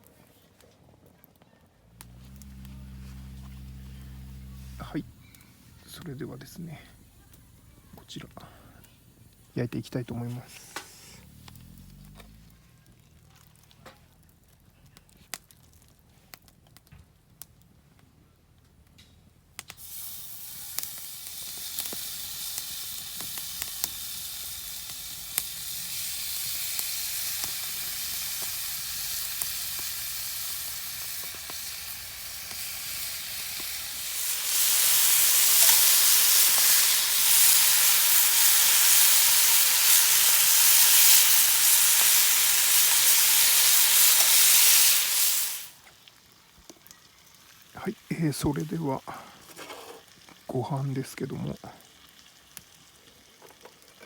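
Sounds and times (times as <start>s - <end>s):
food sizzling on a hot pan: 1.9s - 14.4s, 19.6s - 54.0s.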